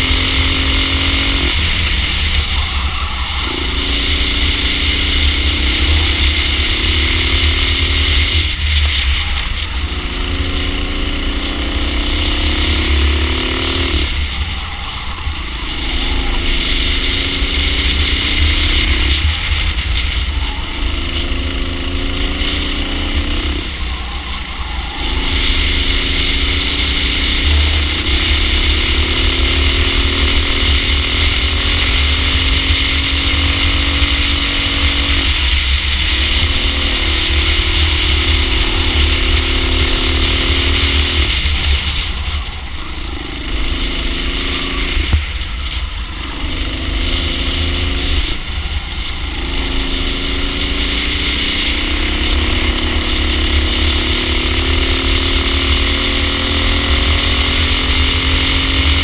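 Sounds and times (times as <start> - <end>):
racing kart engine: 0.0 - 59.0.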